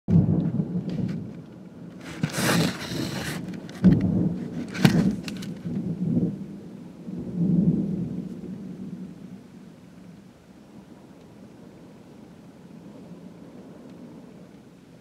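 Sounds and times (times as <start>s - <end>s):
thunder rumbling: 0.1s - 15.0s
hissing wind gusts: 0.4s - 15.0s.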